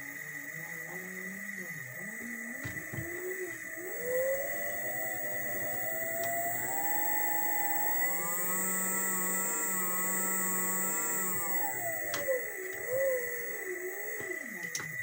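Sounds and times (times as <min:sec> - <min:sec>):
electric motor whine rising: 0:00.0 - 0:15.0
steady high-pitched tone: 0:00.0 - 0:15.0.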